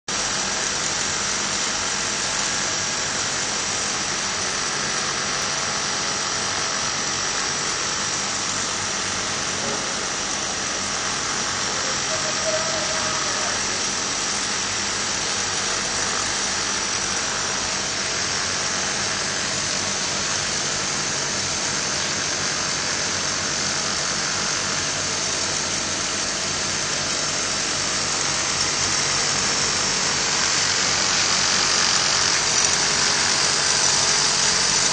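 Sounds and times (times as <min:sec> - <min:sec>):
overlock machine whirring: 0:00.1 - 0:34.9.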